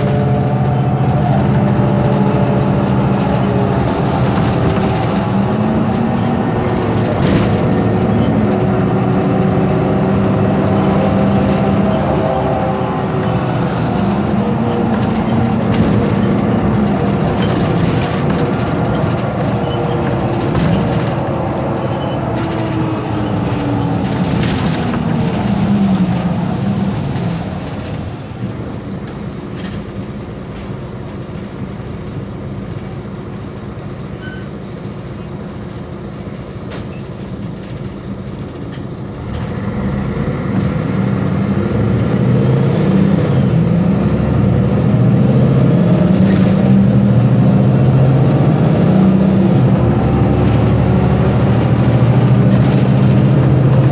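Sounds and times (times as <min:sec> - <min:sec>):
bus diesel engine drone: 0:00.0 - 0:53.9.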